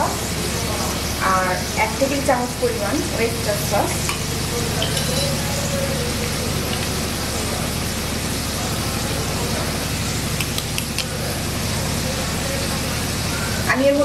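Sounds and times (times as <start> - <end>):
low gas flame rumble: 0.0 - 14.0.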